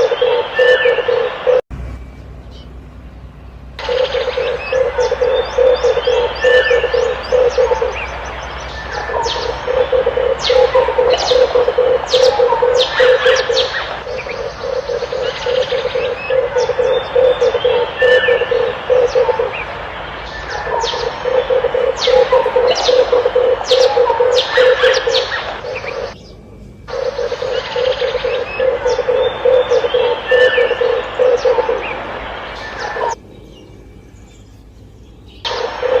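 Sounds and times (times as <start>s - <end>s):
dove cooing: 0.0s - 1.6s, 3.8s - 26.2s, 26.9s - 33.2s, 35.5s - 36.0s
small birds chirping: 0.0s - 36.0s.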